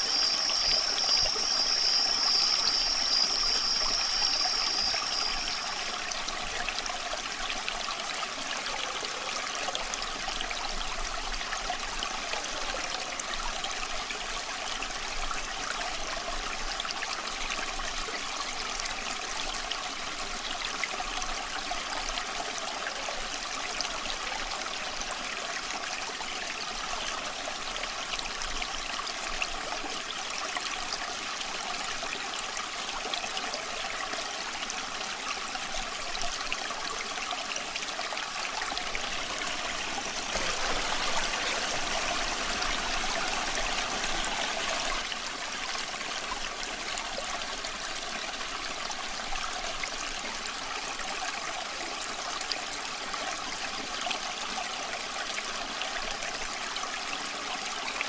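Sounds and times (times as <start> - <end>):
creek water babbling: 0.0 - 58.0.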